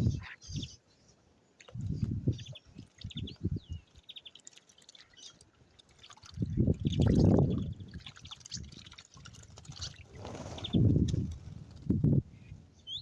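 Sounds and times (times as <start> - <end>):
small birds chirping: 0.0 - 9.0, 9.7 - 11.2, 12.3 - 13.0.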